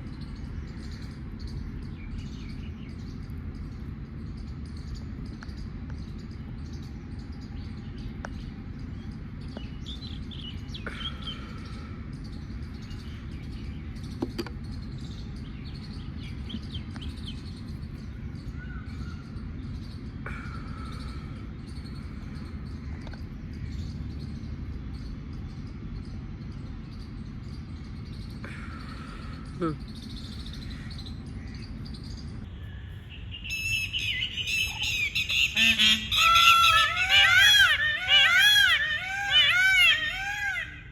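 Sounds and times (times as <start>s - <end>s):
small birds chirping: 0.0s - 40.9s
steady low rumble: 0.0s - 40.9s.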